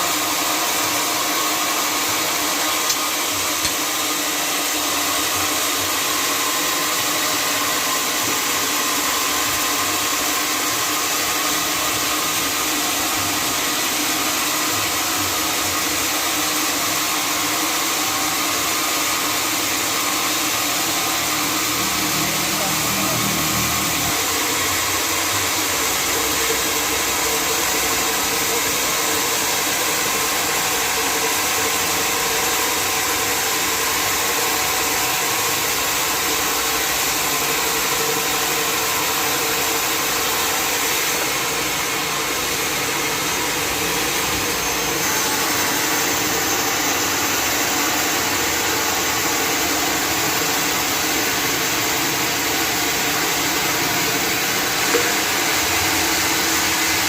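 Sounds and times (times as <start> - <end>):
sawmill hum: 0.0 - 57.0.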